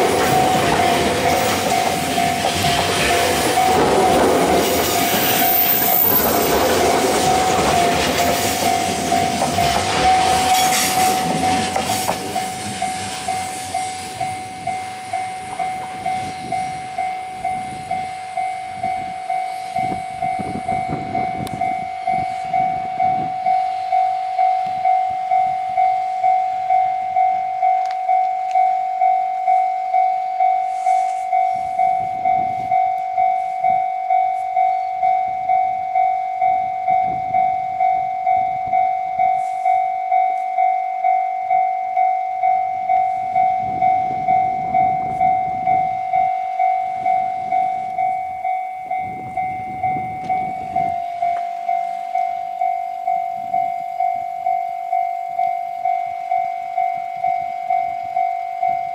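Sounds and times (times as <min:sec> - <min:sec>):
level-crossing warning bell: 0:00.0 - 0:58.9
train rumbling past on rails: 0:00.0 - 0:58.9.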